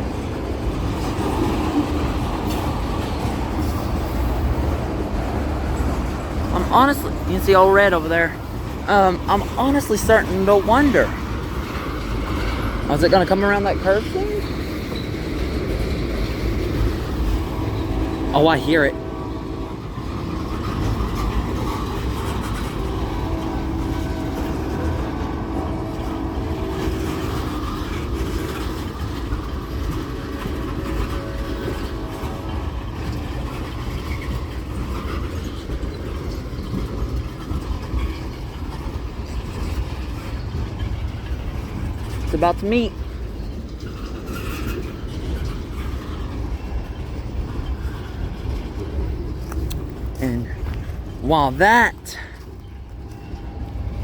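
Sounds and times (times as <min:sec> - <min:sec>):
freight train rumbling on rails: 0:00.0 - 0:54.0.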